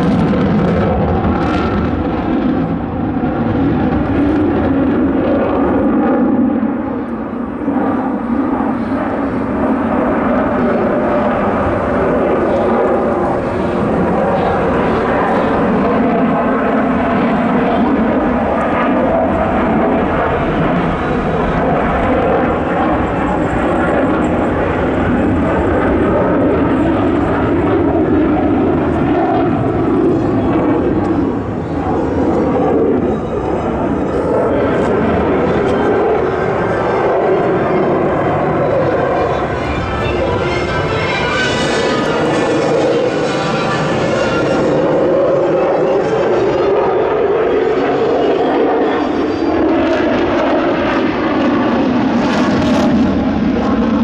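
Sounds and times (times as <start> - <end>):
loud jet engine noise: 0.0 - 54.0.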